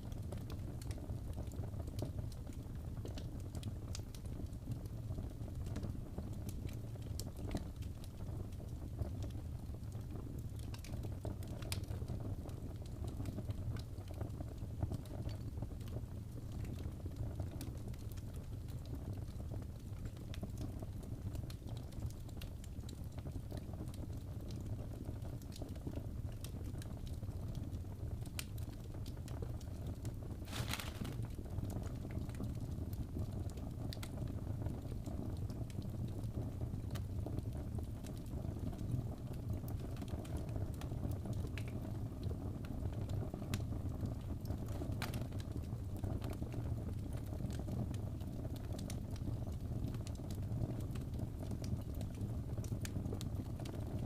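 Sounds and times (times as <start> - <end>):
fire burning in fireplace: 0.0 - 54.0
fire crackles and pops: 0.0 - 54.0.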